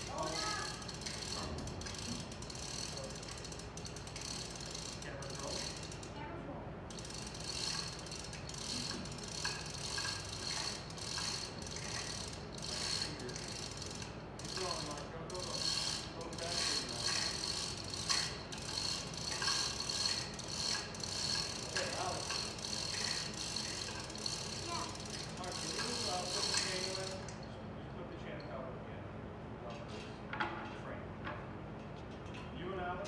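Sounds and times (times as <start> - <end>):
chain rattling: 0.0 - 6.1, 6.9 - 27.5
hoist ratchet clicking: 0.0 - 6.2, 6.9 - 27.4.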